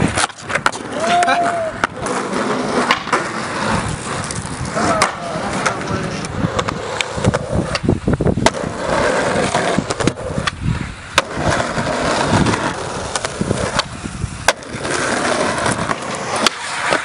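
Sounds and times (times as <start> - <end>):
skateboard clacking: 0.0 - 17.0
skateboard wheels rolling on concrete: 0.0 - 17.0.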